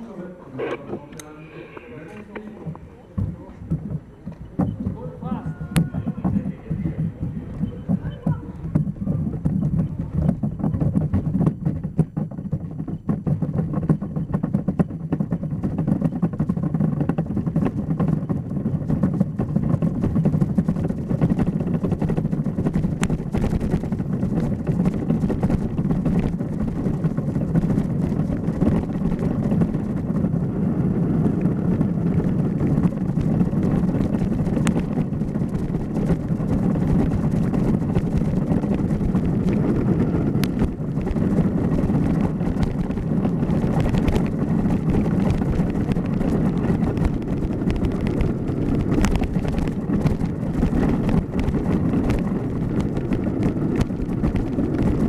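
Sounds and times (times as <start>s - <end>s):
runners rumbling on ice: 0.0s - 55.0s
sled knocking and rattling: 2.0s - 55.0s.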